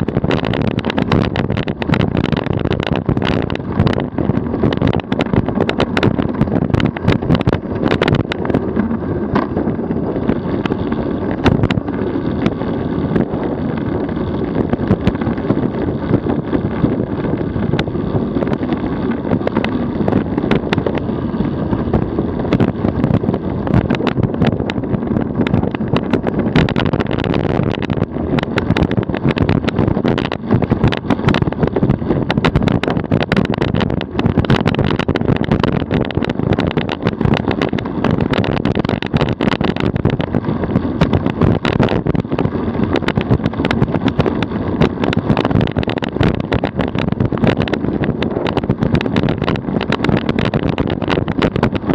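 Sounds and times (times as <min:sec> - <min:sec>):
road noise rumble: 0:00.0 - 0:51.9
small clicks and rattles: 0:00.0 - 0:51.9.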